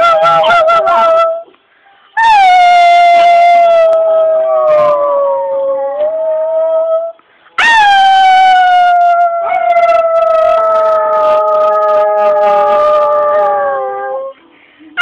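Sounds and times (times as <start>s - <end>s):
dog howling: 0.0s - 1.4s, 2.2s - 14.4s.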